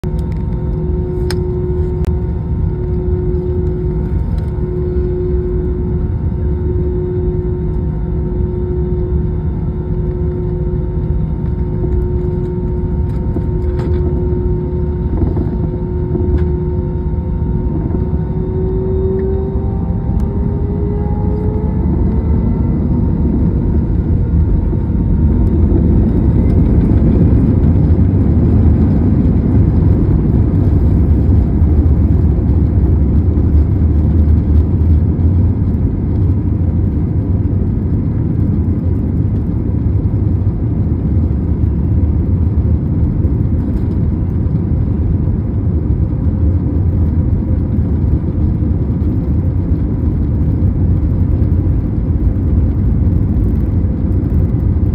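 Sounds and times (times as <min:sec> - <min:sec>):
jet engines rumbling in cabin: 0:00.0 - 0:54.9.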